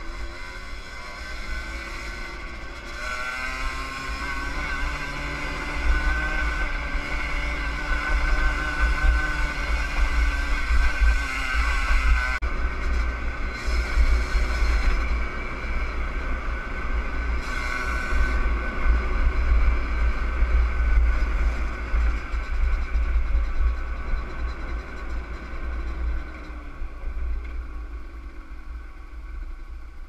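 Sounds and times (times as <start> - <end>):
two-stroke motorcycle engine: 0.0 - 30.0
wind rumble on microphone: 0.0 - 30.0.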